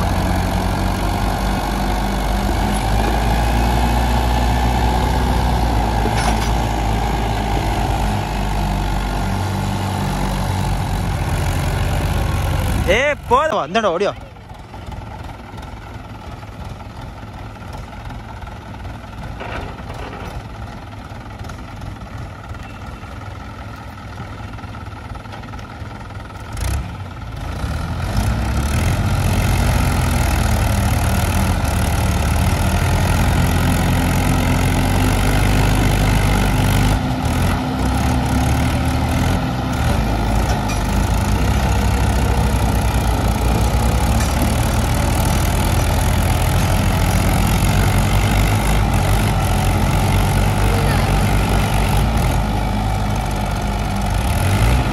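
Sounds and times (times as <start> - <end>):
tractor engines revving under load: 0.0 - 22.5, 23.4 - 54.9.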